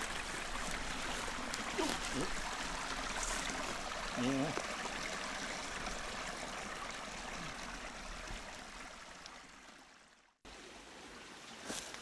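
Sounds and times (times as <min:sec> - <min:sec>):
stream running: 0:00.0 - 0:12.0.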